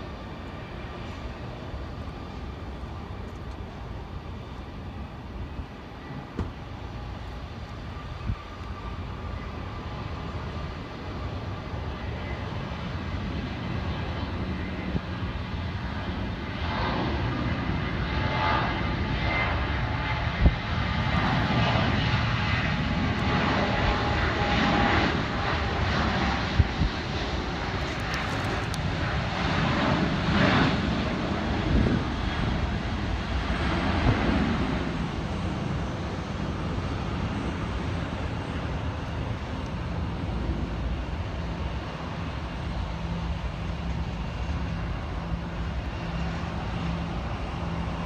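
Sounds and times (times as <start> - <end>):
jet engines roaring at takeoff: 0.0 - 48.0.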